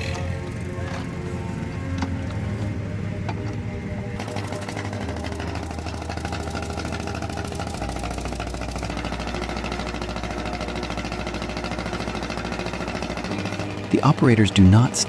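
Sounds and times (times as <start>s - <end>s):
radial aircraft engine running: 0.0s - 15.0s.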